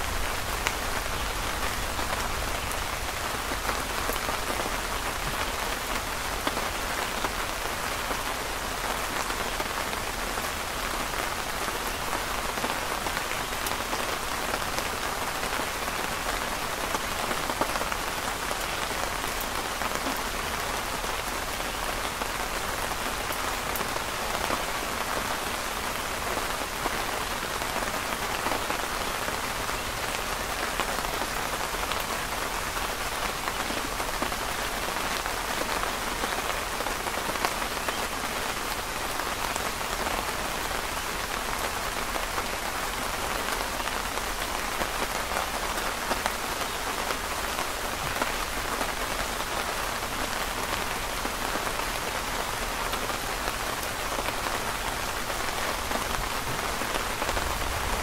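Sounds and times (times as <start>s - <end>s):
rain pattering on canopy: 0.0s - 58.0s.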